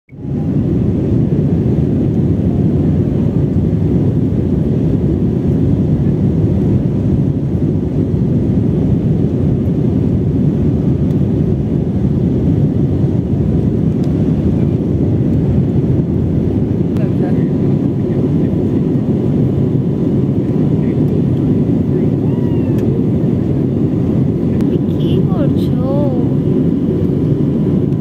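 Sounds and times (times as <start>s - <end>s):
airliner cabin drone: 0.1s - 28.0s.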